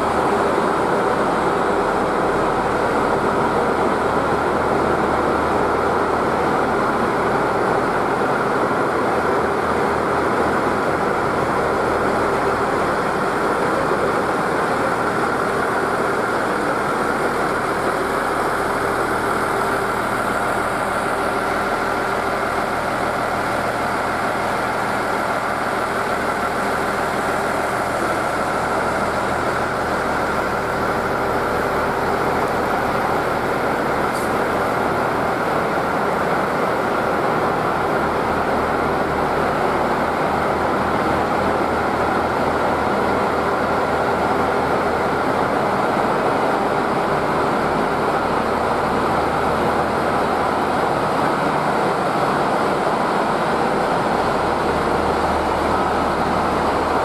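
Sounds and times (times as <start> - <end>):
train engine running: 0.0 - 57.0
wheels rumbling on rails: 0.0 - 57.0.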